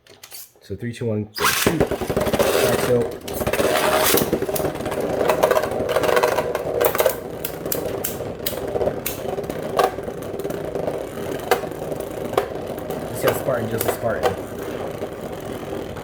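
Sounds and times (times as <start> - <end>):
spinning tops whirring: 1.4 - 16.0.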